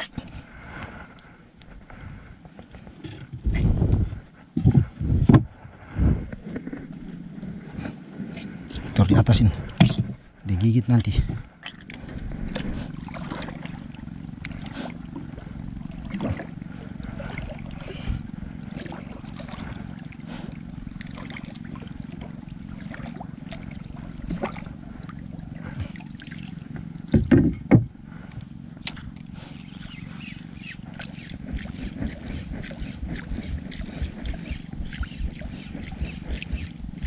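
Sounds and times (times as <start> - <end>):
boat engine low rumble: 0.0 - 37.0.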